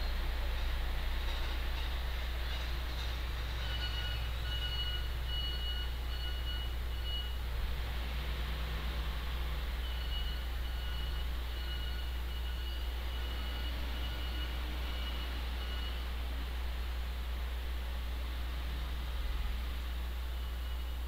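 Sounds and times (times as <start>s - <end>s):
faint high-pitched whine: 0.0s - 21.0s
low electrical hum and hiss: 0.0s - 21.0s.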